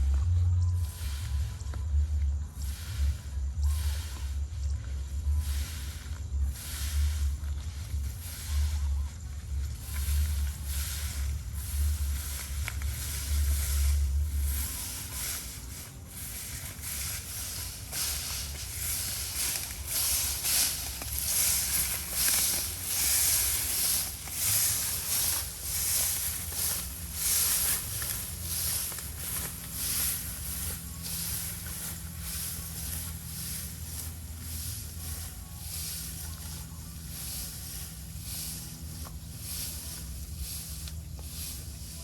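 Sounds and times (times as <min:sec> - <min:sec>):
low hum: 0:00.0 - 0:42.0
sickle cutting dry stalks: 0:03.7 - 0:42.0.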